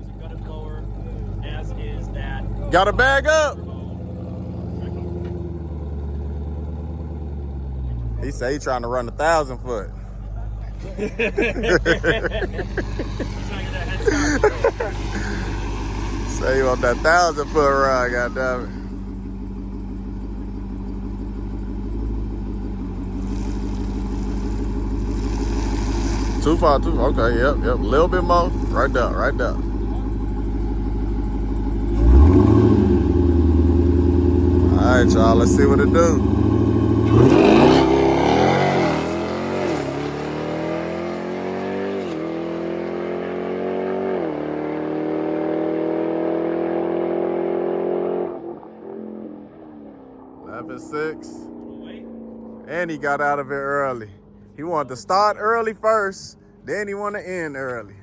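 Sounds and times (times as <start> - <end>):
car engine idling: 0.0 - 41.6, 48.5 - 58.0.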